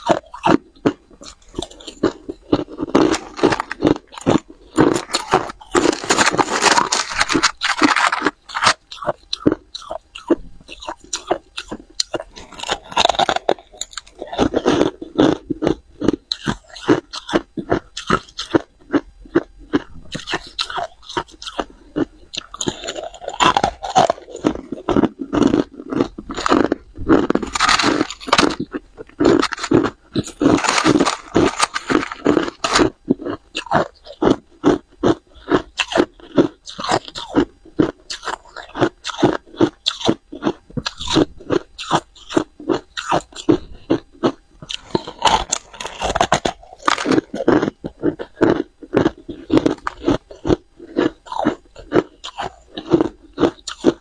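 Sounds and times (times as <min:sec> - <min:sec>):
person crunching ice: 0:00.0 - 0:54.0.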